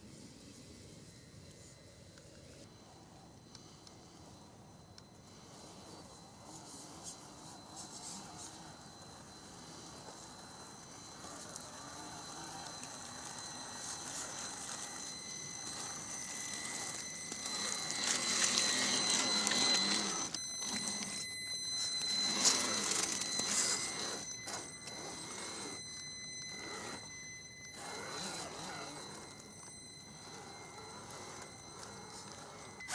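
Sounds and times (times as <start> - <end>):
electric motor whining: 0.5 - 32.9.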